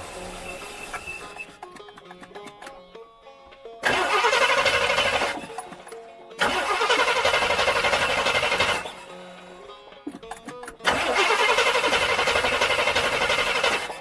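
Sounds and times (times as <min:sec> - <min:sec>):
car engine cranking on starter: 0:00.0 - 0:02.8, 0:03.8 - 0:09.5, 0:10.1 - 0:14.0.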